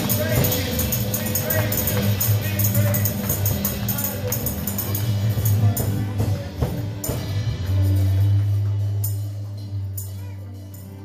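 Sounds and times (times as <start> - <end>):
bass line: 0.0 - 11.0
tambourine shaking: 0.0 - 11.0
worship band music: 0.0 - 11.0.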